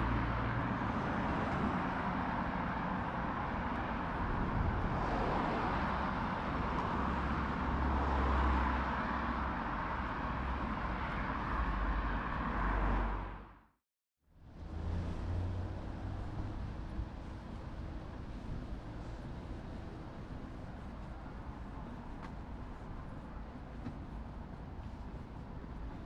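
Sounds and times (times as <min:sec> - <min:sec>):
road vehicle rumble and hiss: 0:00.0 - 0:13.5, 0:14.4 - 0:26.0.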